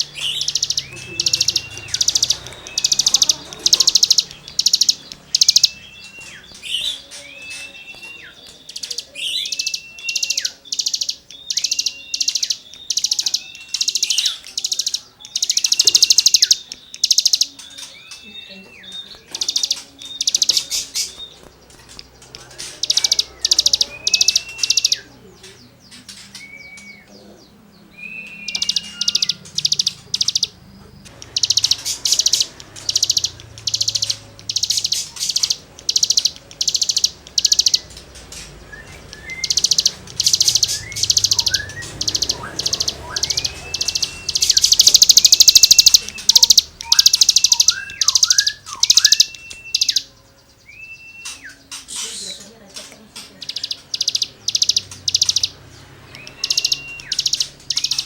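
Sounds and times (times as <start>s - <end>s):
songbird whistled slurred notes: 0.0s - 21.5s, 22.4s - 25.1s, 26.0s - 27.1s, 27.8s - 30.6s, 31.2s - 52.4s, 53.5s - 58.0s
songbird harsh buzzy rasping song: 0.0s - 58.0s.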